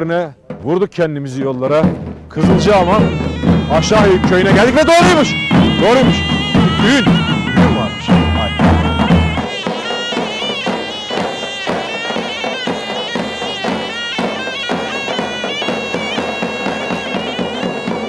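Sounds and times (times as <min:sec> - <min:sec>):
big drums beating: 0:00.3 - 0:18.0
shrill pipe folk melody: 0:02.3 - 0:18.0.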